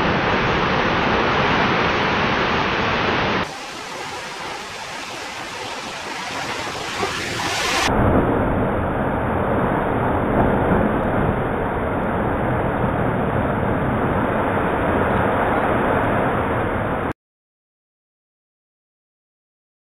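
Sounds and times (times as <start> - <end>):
ocean waves breaking: 0.0 - 17.1.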